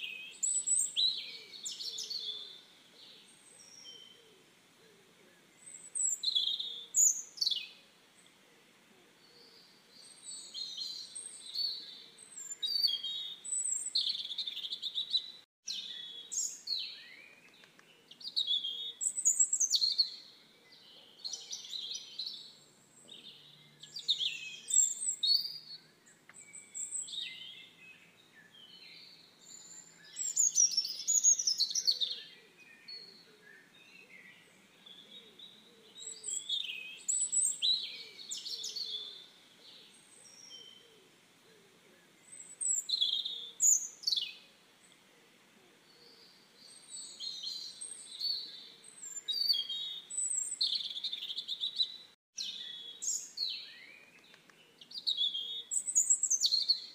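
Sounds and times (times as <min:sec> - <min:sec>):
songbirds chirping and calling: 0:00.0 - 0:56.9.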